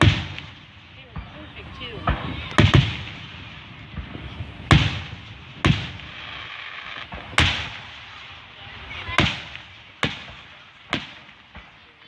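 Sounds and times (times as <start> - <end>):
fireworks booming with echo: 0.0 - 12.0.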